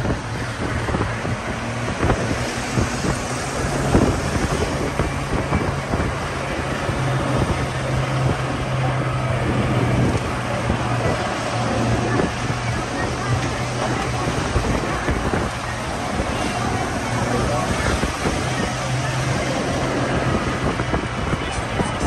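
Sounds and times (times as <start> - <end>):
low engine hum: 0.0 - 22.0
wind and road noise: 0.0 - 22.0.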